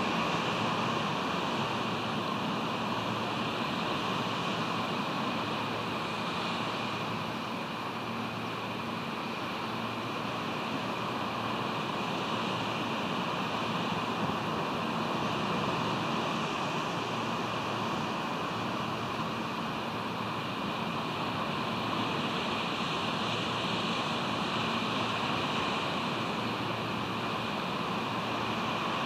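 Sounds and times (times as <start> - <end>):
ocean surf: 0.0 - 29.0.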